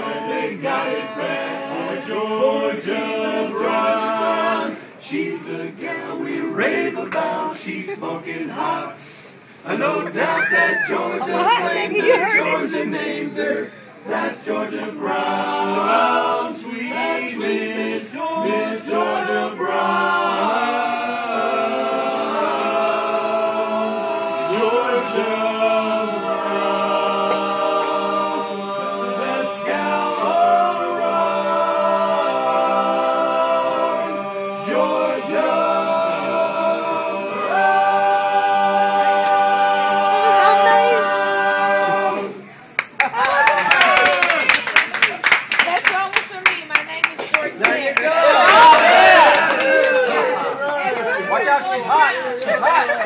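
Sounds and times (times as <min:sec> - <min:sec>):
a cappella choir singing: 0:00.0 - 0:42.8, 0:47.5 - 0:50.6.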